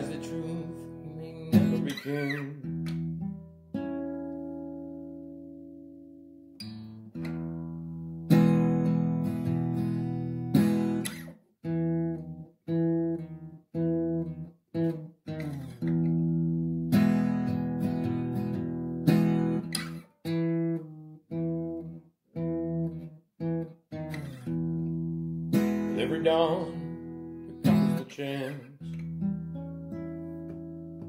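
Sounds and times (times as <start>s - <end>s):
strummed acoustic guitar chords: 0.0s - 31.0s.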